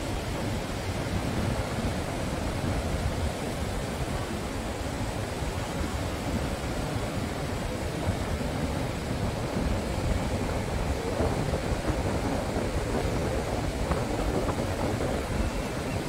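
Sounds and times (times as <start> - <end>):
surf washing: 0.0 - 16.0
wind noise on microphone: 0.0 - 16.0.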